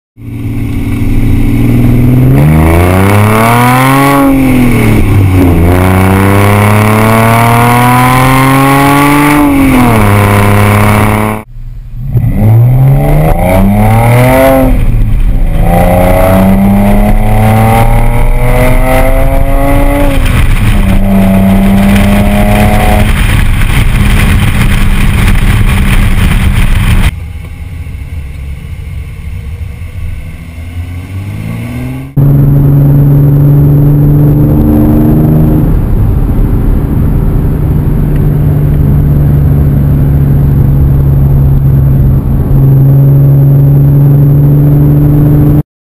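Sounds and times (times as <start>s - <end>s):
car exhaust accelerating through shifts: 0.2s - 45.6s.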